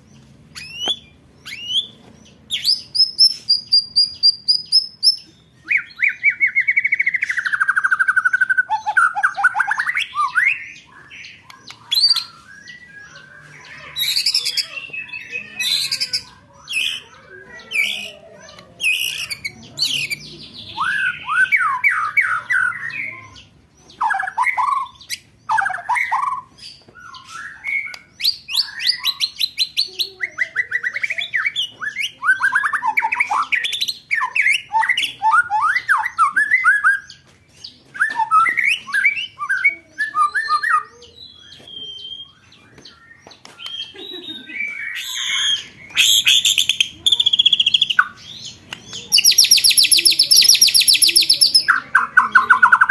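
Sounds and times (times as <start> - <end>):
songbird trills and chattering: 0.0 - 52.9.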